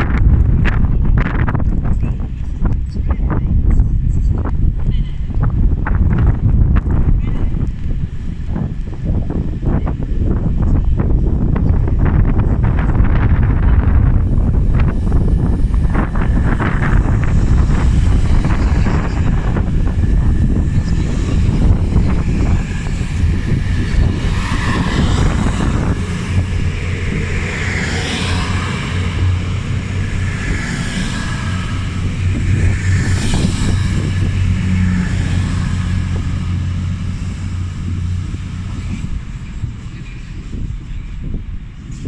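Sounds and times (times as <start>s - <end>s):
diesel train engines droning: 0.0s - 42.0s.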